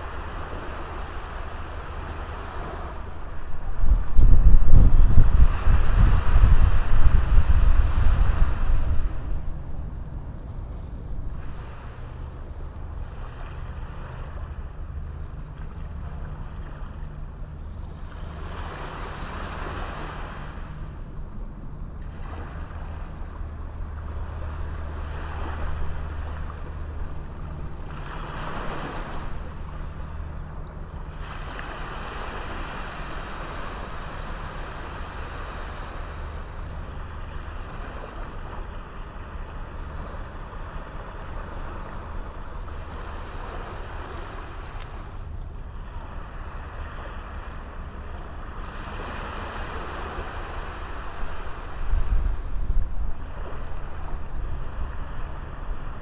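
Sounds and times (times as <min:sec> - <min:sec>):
small waves breaking on beach: 0:00.0 - 0:56.0
steady low rumble: 0:00.0 - 0:56.0.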